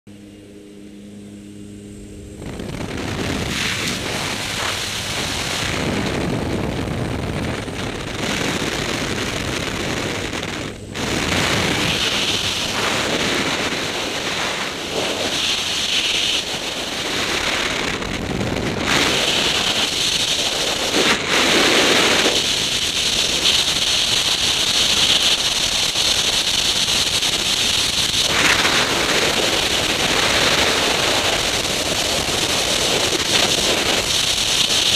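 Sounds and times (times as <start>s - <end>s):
airplane engine hum: 0.1s - 34.9s
wind rushing over microphone: 1.6s - 34.9s.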